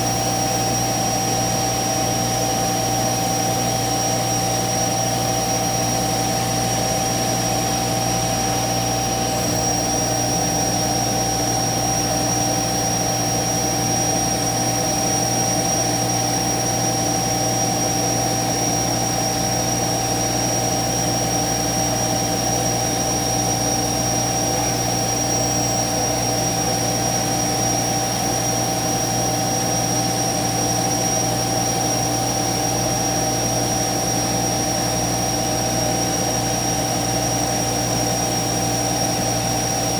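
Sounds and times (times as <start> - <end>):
router machine drone with whine: 0.0 - 39.9.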